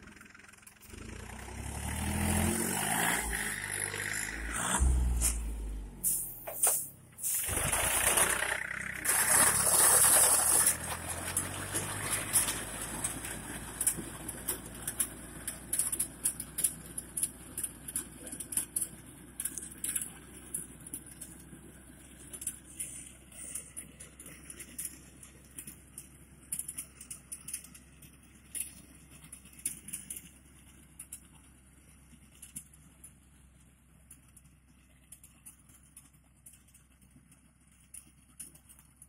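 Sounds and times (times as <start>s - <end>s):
tractor engine running: 0.0s - 39.0s
sharp clicks and crackles of stalks: 6.0s - 39.0s.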